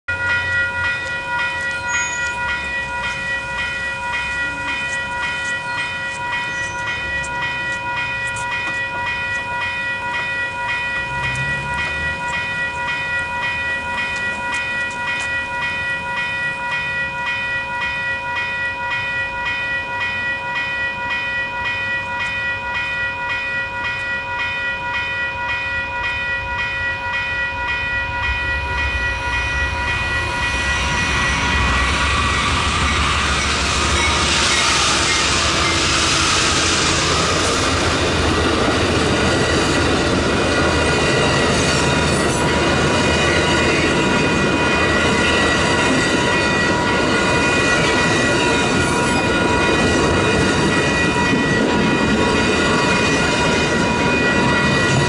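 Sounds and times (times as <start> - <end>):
electronic crossing bell ringing: 0.1 - 55.0.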